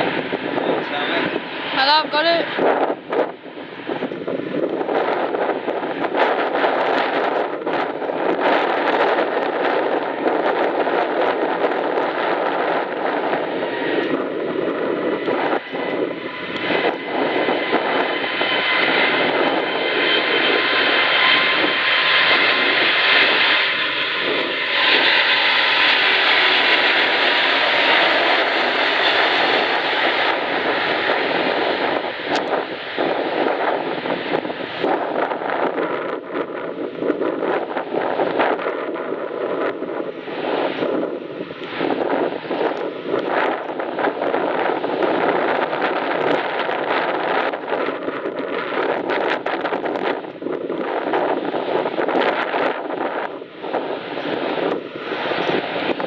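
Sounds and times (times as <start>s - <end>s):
jet airliner taking off: 0.0s - 56.0s.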